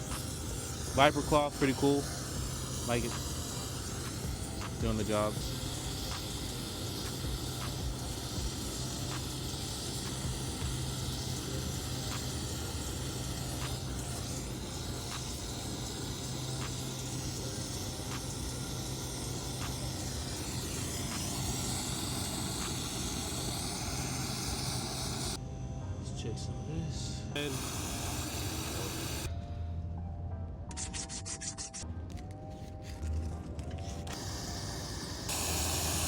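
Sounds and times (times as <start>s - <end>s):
soldering torch flame hissing: 0.0s - 29.3s, 32.4s - 36.0s.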